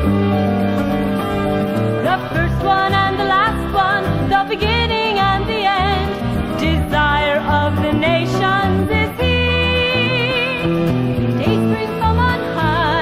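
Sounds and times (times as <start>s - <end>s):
christian pop song: 0.0s - 13.0s.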